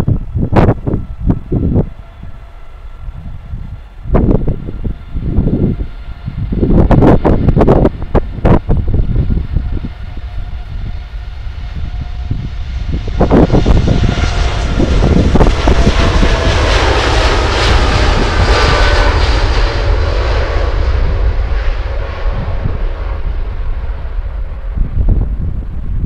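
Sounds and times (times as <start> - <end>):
jet engines at takeoff power: 0.0 - 26.0
whining engine tone: 0.0 - 26.0
wind buffeting microphone: 0.0 - 26.0.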